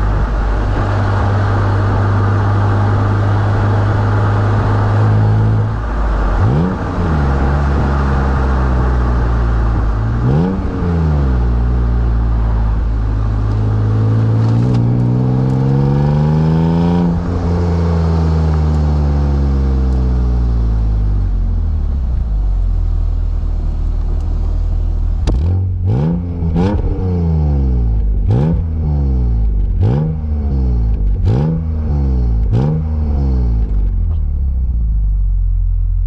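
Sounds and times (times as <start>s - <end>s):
car exhaust rumble: 0.0s - 36.0s
engine throttle blips: 0.0s - 36.0s.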